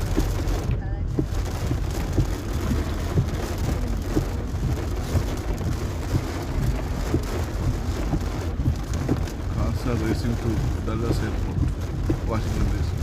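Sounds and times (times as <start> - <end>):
rain falling: 0.0 - 13.0
road traffic rumble: 0.0 - 13.0.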